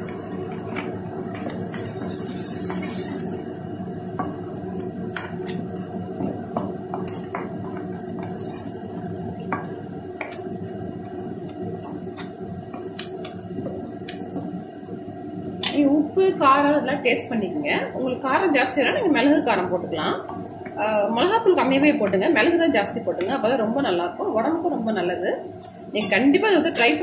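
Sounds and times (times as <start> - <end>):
frying mixture sizzling: 0.0 - 24.4.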